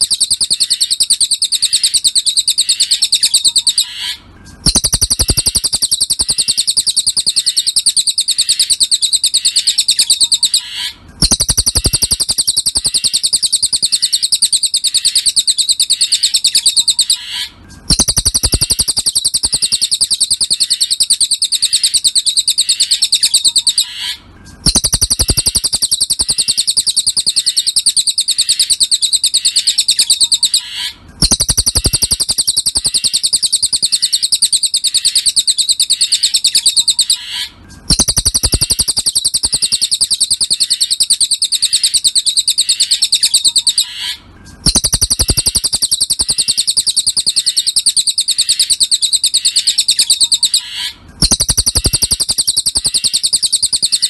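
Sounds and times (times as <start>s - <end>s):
bird chirping song: 0.0s - 54.0s.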